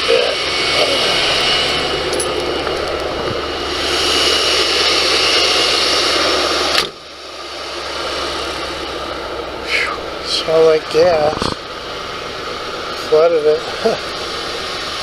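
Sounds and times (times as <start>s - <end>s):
van engine running: 0.0s - 15.0s.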